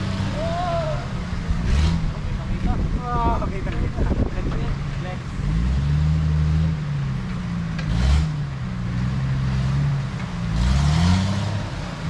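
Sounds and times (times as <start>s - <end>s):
off-road engine revving: 0.0s - 12.0s.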